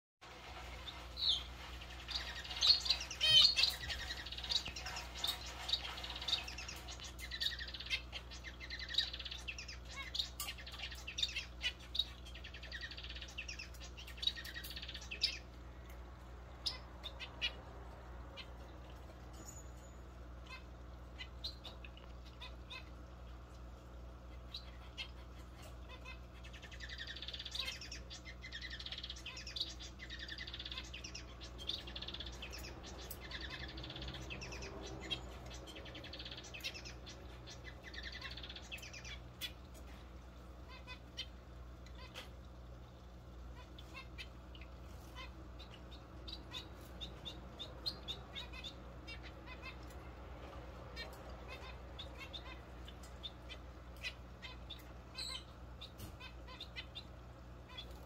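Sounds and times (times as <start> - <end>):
steady low hum: 0.2 - 58.0
pet bird chirping: 0.8 - 15.5, 19.3 - 23.0, 24.2 - 39.8, 40.6 - 42.4, 43.5 - 58.0.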